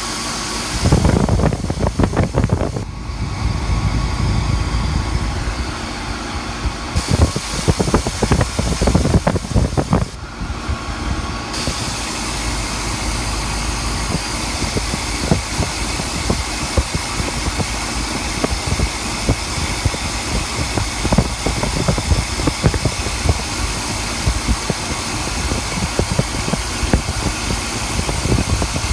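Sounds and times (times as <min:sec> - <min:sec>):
ventilation system rushing: 0:00.0 - 0:28.9.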